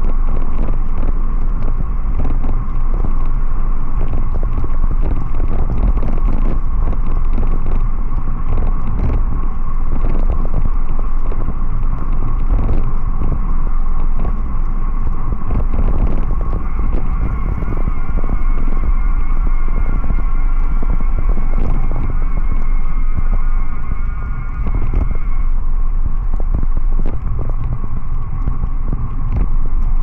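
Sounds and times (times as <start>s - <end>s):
steady high hum: 0.0s - 30.0s
wind buffeting microphone: 0.0s - 30.0s.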